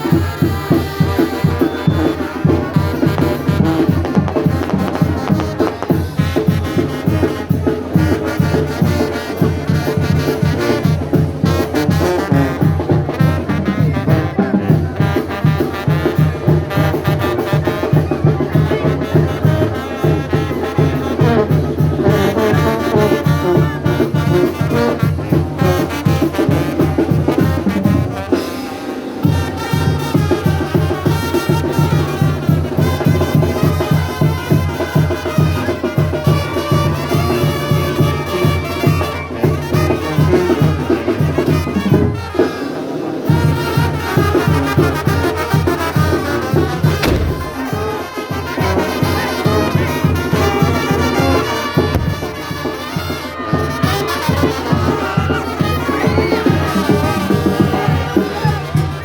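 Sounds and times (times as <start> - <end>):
latin brass music: 0.0 - 59.0.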